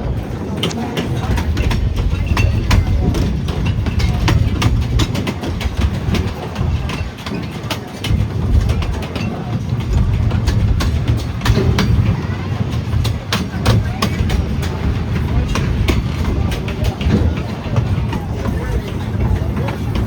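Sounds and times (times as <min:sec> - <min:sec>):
train rumbling along track: 0:00.0 - 0:20.0
wheels clacking on rails: 0:00.0 - 0:20.0.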